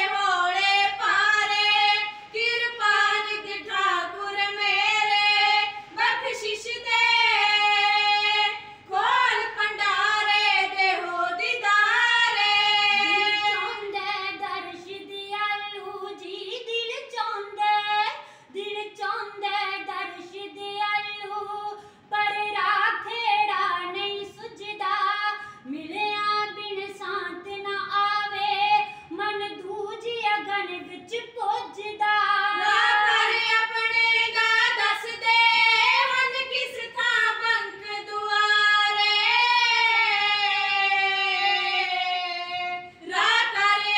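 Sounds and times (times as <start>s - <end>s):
women singing unaccompanied: 0.0s - 43.9s.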